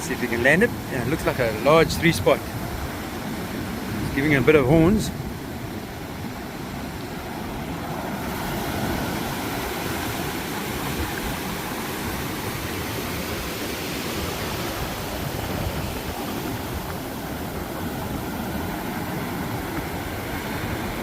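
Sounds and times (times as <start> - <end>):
ocean surf washing onto shore: 0.0 - 21.0
wind rumbling on microphone: 0.0 - 21.0.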